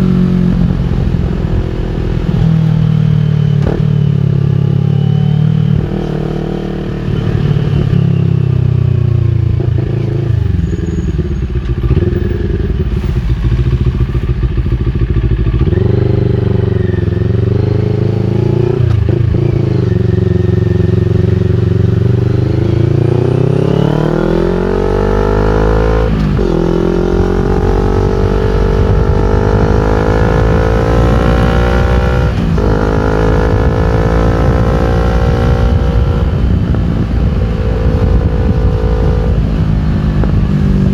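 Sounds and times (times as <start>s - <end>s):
motorcycle engine under load: 0.0s - 40.9s.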